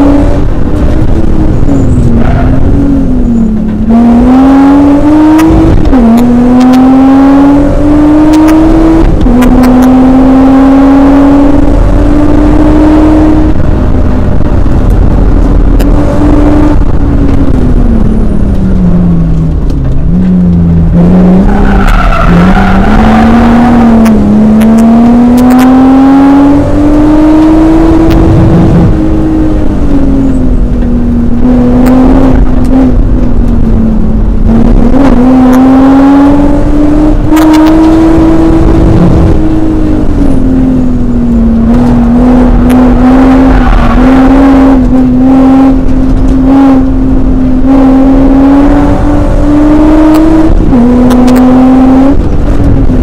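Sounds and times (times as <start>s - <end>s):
car engine at hard throttle: 0.0s - 53.0s.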